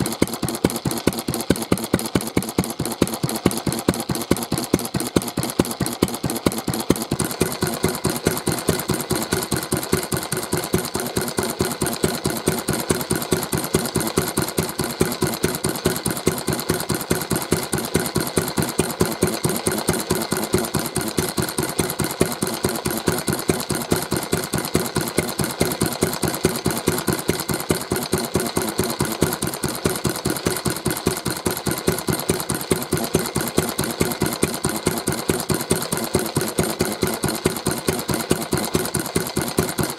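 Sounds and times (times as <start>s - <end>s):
stationary engine idling: 0.0s - 39.9s.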